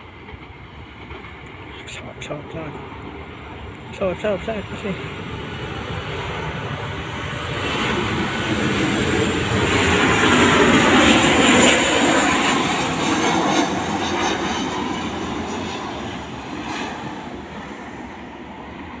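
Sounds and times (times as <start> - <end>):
jet airliner engine roar: 0.0 - 19.0.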